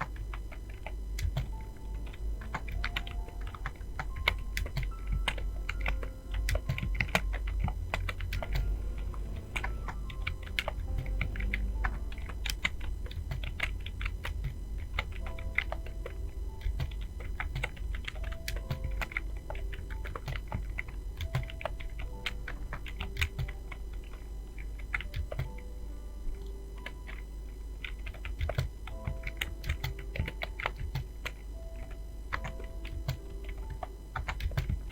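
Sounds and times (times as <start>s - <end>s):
fast keyboard typing: 0.0s - 25.8s, 26.4s - 34.9s
steady low hum: 0.0s - 34.9s.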